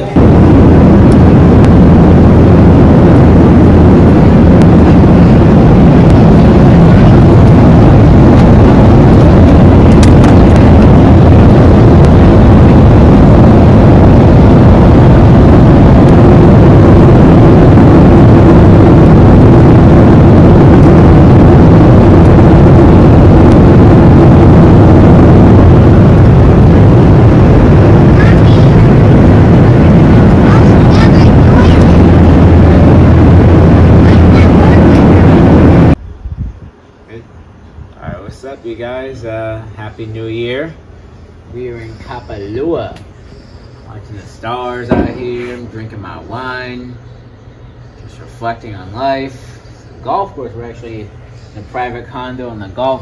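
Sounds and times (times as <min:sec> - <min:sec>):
jet cabin engine roar: 0:00.0 - 0:53.0.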